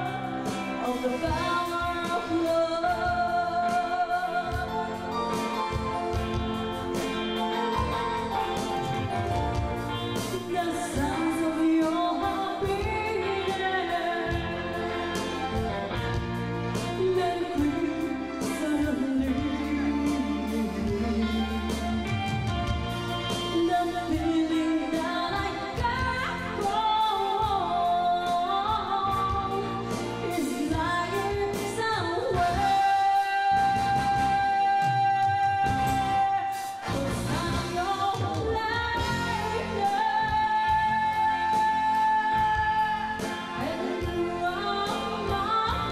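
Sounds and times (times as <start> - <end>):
instrumental backing: 0.0 - 45.9
woman singing a slow ballad: 0.0 - 45.9.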